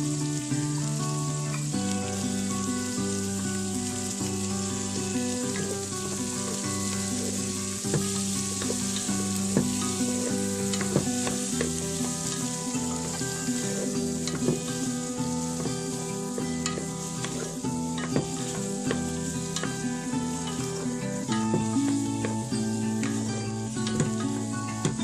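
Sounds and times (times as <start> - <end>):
background music with held notes: 0.0 - 25.0
food sizzling in a pan: 0.0 - 25.0
utensil clicking against pan: 4.2 - 25.0.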